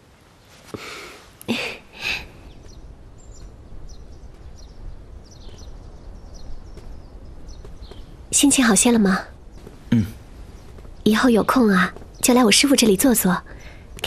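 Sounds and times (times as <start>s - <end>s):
low steady background noise: 0.0s - 14.0s
small birds chirping: 0.4s - 14.0s.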